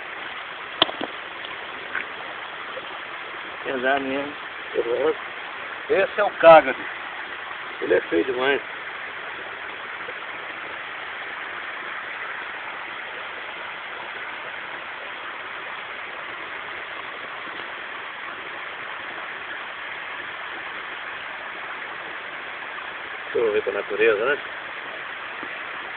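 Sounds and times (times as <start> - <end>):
stream water flowing: 0.0 - 25.9.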